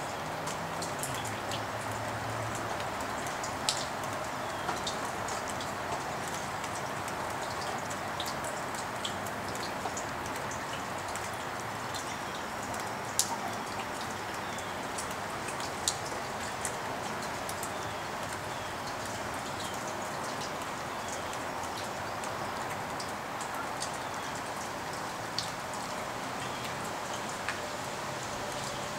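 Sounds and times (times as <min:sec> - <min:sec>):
steady rain hiss: 0:00.0 - 0:28.9.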